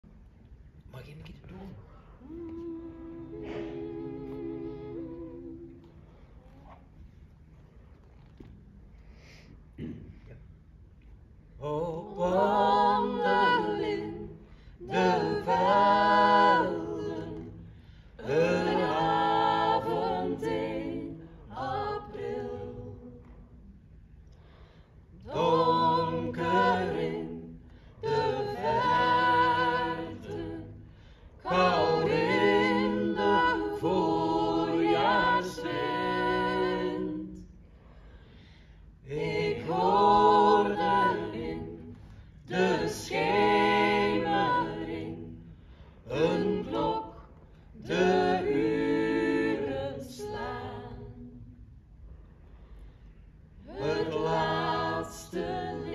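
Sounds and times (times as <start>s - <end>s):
group singing a cappella: 2.2s - 6.4s, 11.5s - 23.7s, 24.4s - 51.8s, 52.6s - 55.9s.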